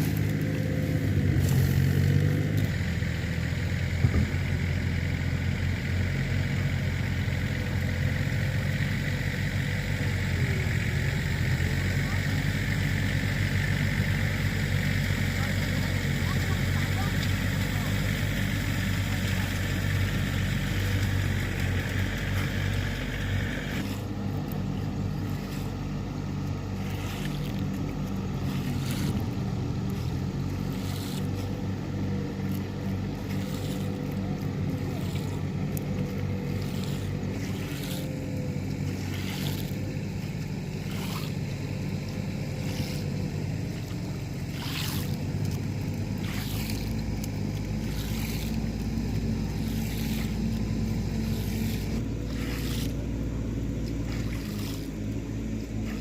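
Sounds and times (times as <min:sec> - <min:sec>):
motor running: 0:00.0 - 0:56.0.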